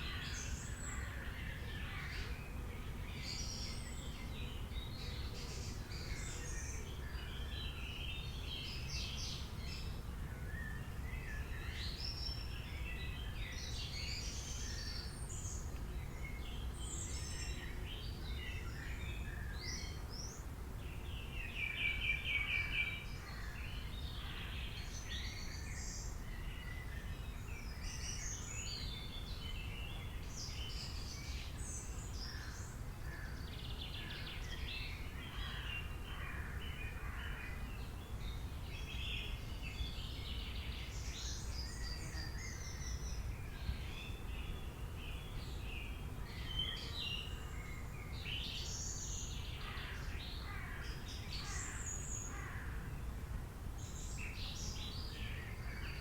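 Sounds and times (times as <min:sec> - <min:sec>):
wild birds singing: 0:00.0 - 0:56.0.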